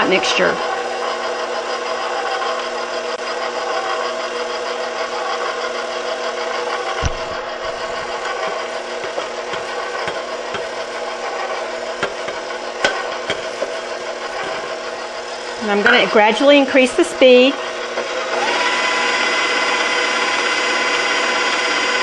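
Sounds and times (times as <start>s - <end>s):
stand mixer motor humming: 0.0s - 22.0s.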